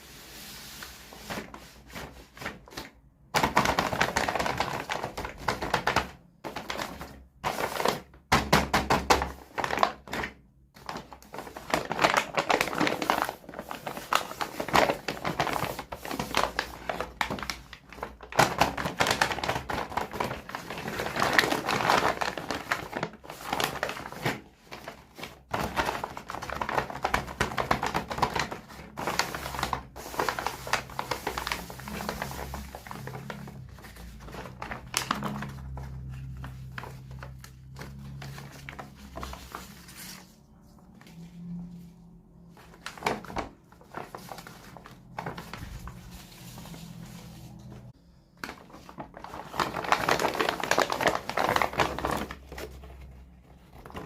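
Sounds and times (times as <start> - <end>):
plastic packaging crackling: 0.0 - 41.6, 42.4 - 54.0.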